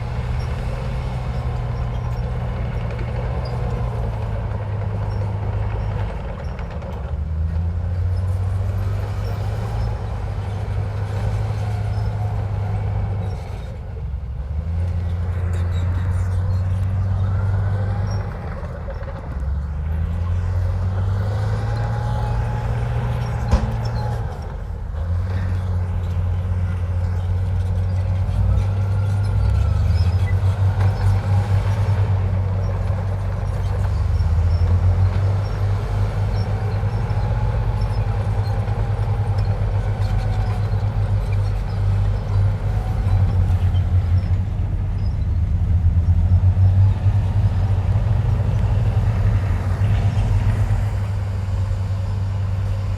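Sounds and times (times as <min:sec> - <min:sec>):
diesel earthmoving machinery: 0:00.0 - 0:52.9.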